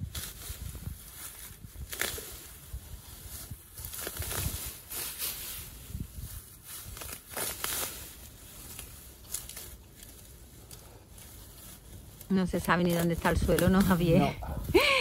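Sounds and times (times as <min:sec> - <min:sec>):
dry grass crackling and rustling: 0:00.0 - 0:15.0.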